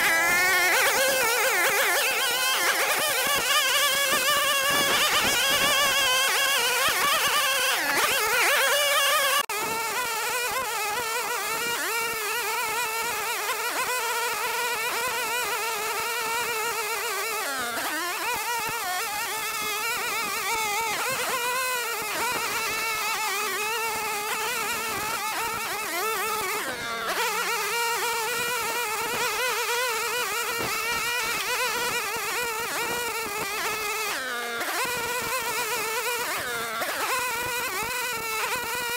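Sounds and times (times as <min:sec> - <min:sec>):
string trimmer running: 0:00.0 - 0:38.9.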